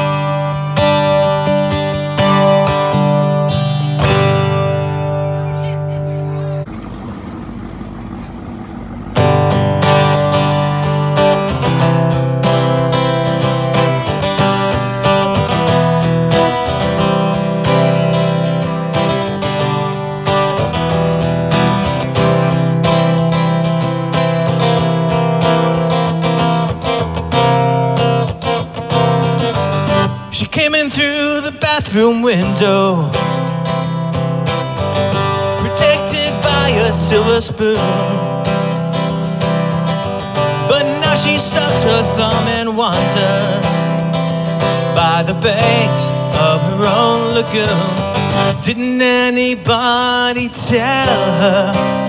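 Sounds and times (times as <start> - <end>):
acoustic guitar chords: 0.0 - 52.0.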